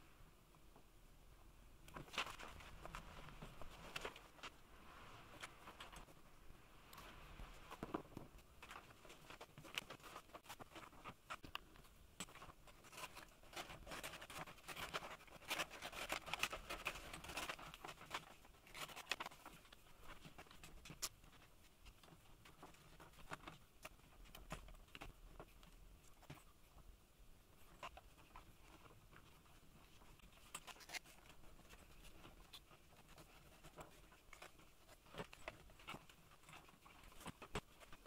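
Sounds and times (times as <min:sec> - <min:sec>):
stiff paper rustling: 0:01.9 - 0:26.8, 0:27.5 - 0:38.0.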